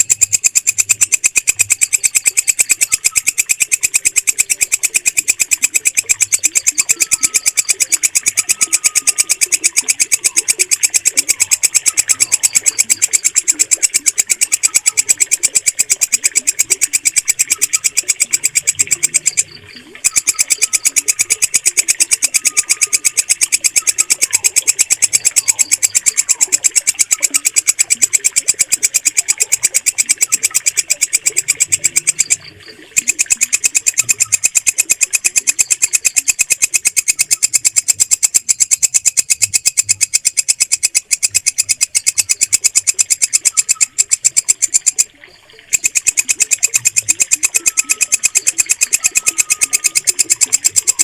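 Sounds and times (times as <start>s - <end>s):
bush cricket chirping: 0.0s - 45.1s.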